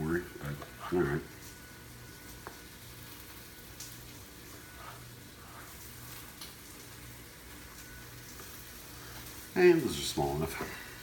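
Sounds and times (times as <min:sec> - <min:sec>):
chicken sizzling in a pan: 0:00.0 - 0:11.0
low steady hum: 0:00.0 - 0:11.0.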